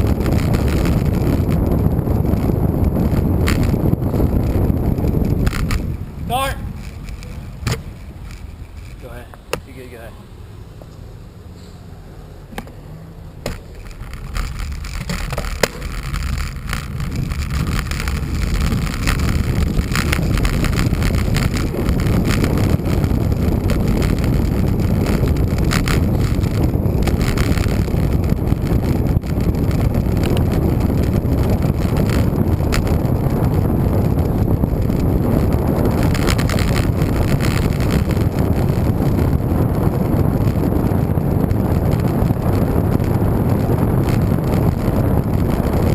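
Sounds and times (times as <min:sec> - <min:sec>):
light bicycle clicks: 0:00.0 - 0:06.0, 0:06.7 - 0:09.1, 0:13.5 - 0:45.9
wind rushing over microphone: 0:00.0 - 0:45.9.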